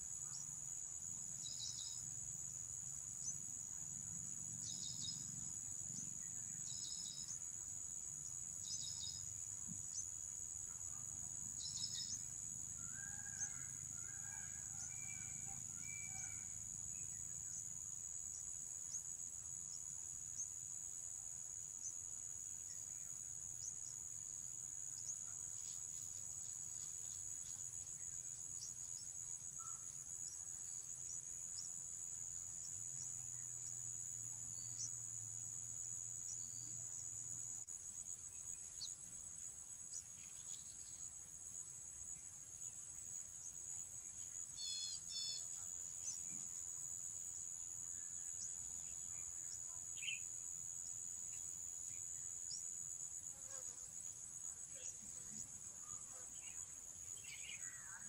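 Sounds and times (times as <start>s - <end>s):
insects chirring drone: 0.0s - 58.0s.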